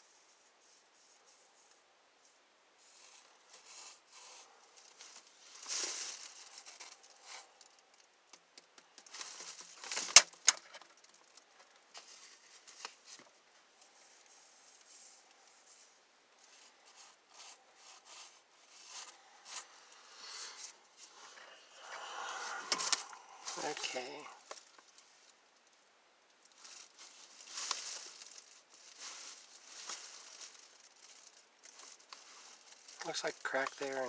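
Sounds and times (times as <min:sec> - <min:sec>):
rustling and scraping: 0:00.0 - 0:08.1, 0:08.8 - 0:25.4, 0:26.4 - 0:34.0.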